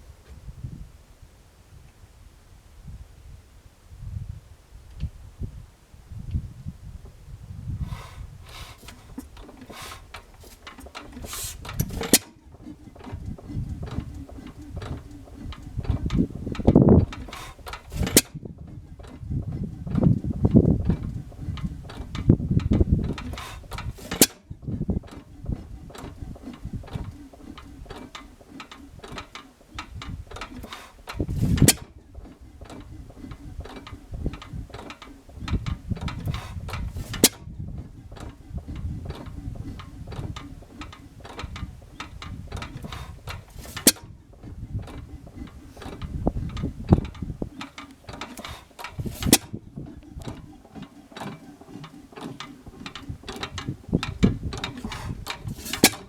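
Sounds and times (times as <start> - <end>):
stationary engine running slowly: 6.2 - 56.0
valve gear clicking: 7.9 - 56.0.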